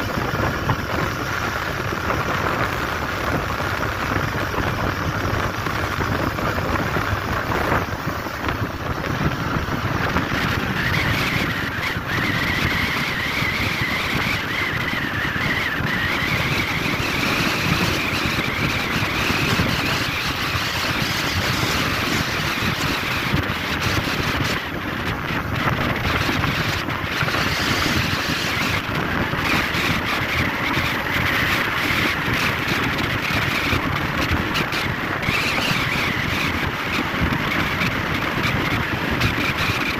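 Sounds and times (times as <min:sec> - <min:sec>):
vehicle road and wind noise: 0:00.0 - 0:39.9.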